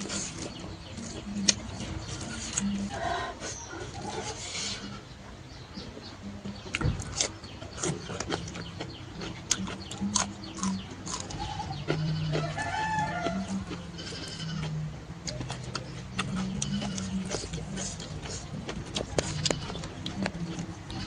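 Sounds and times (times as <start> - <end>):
chewing and lip-smacking: 0.0 - 5.0, 6.4 - 21.0.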